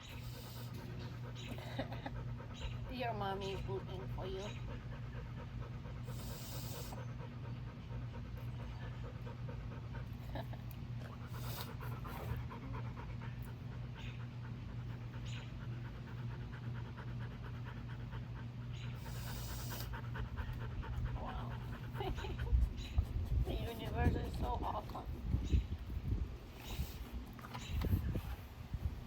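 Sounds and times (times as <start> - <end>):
dog panting: 0.0 - 28.4.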